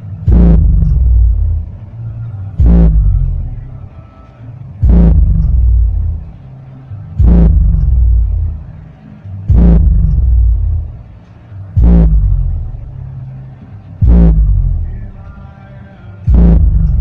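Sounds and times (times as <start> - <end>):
heavy bass hits from subwoofer: 0.0 - 4.0, 4.7 - 15.3, 16.2 - 17.0.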